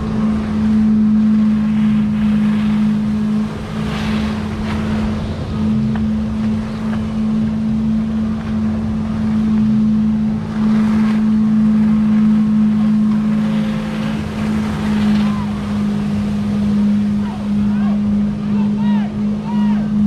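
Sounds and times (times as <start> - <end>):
boat engine running: 0.0 - 20.0
wind and water rushing: 0.0 - 20.0.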